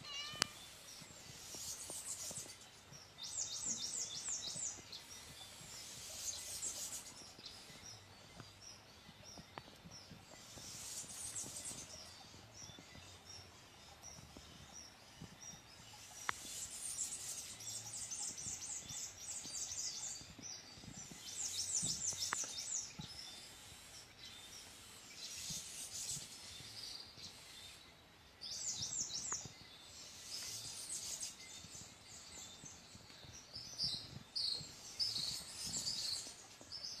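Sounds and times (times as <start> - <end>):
birds chirping trills: 0.0 - 37.0
faint background hiss: 0.0 - 37.0.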